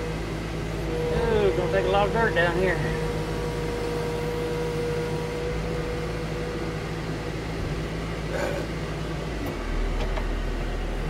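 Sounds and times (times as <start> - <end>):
diesel engine running: 0.0 - 11.0
thin steady whine: 0.0 - 11.0.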